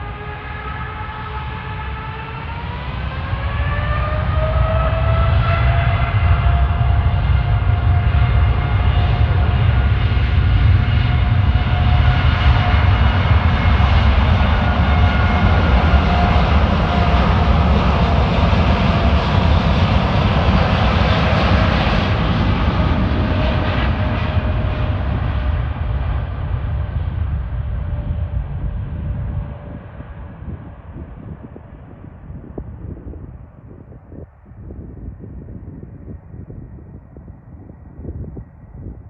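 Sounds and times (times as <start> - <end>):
jet airliner taking off: 0.0 - 39.0
jet engines rumbling and whining: 0.0 - 39.0.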